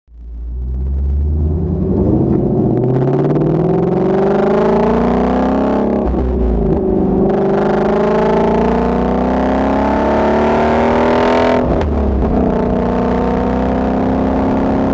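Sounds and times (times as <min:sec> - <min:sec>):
car exhaust under acceleration: 0:00.1 - 0:14.9.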